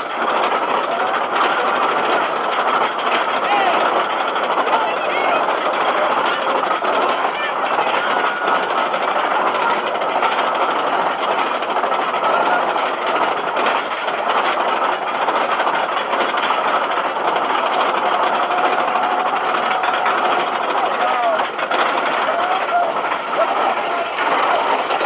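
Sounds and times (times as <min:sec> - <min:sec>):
roller coaster rumbling on track: 0:00.0 - 0:25.0.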